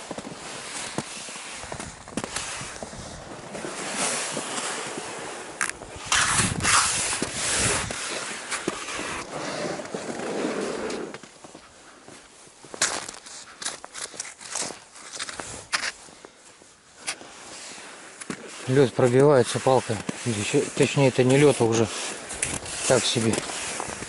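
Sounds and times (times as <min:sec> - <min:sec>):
skis crunching through slushy snow: 0:00.0 - 0:24.0.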